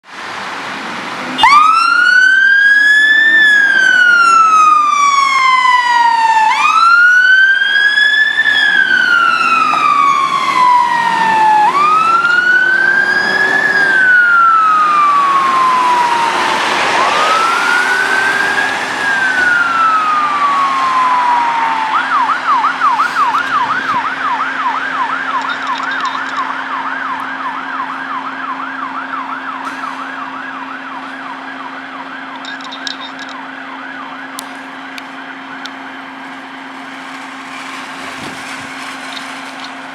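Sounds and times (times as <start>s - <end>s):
fire engine siren wailing and yelping: 0.5s - 39.9s.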